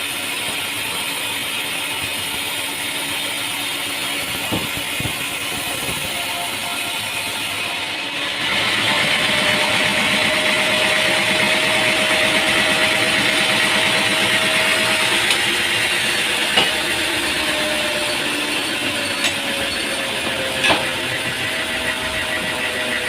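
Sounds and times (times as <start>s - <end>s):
machinery engine running: 0.0s - 23.0s.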